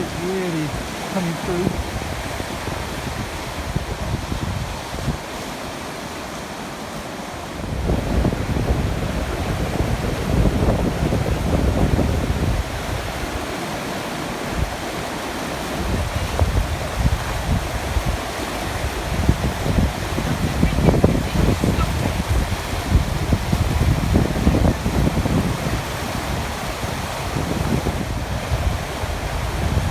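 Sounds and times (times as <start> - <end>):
wind buffeting microphone: 0.0 - 5.4, 7.5 - 13.8, 14.4 - 29.9
floodwater rushing: 0.0 - 29.9.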